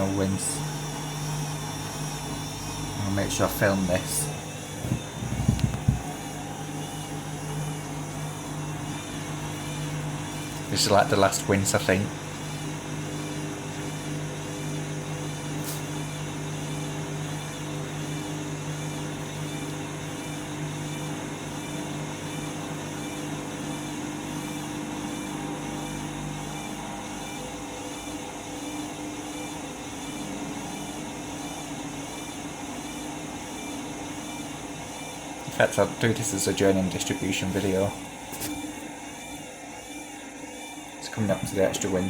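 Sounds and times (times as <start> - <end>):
washing machine motor whining: 0.0 - 42.0.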